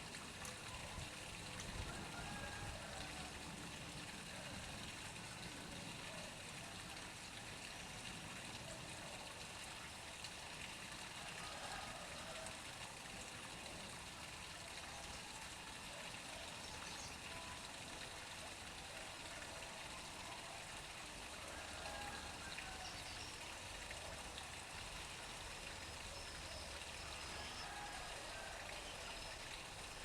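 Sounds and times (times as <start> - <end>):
water pouring into pond: 0.0 - 30.0.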